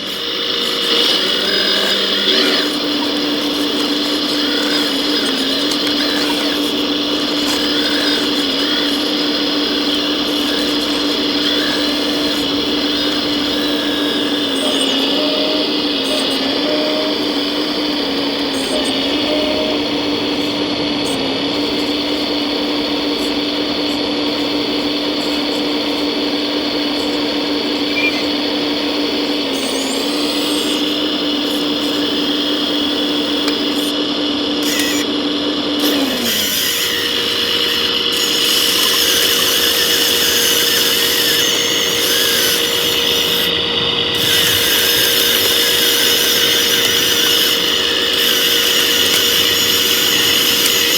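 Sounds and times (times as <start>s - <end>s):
small electric motor whining: 0.0s - 50.9s.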